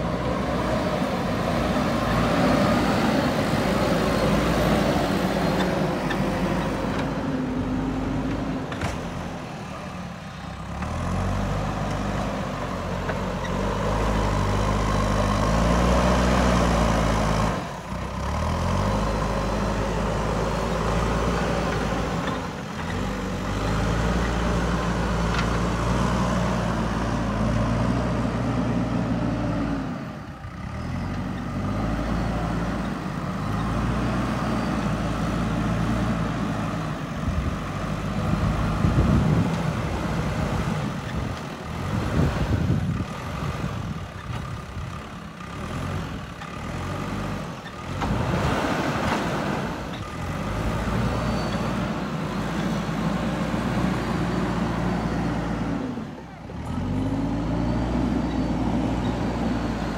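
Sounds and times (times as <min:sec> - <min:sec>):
diesel engine working under load: 0:00.0 - 0:59.9.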